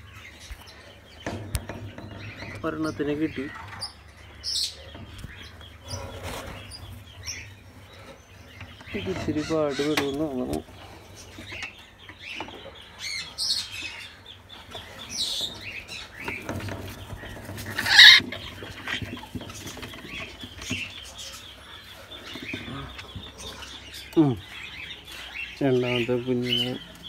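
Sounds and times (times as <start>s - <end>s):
harsh bird sound: 0.0s - 27.0s
small bird sounds: 0.0s - 27.0s.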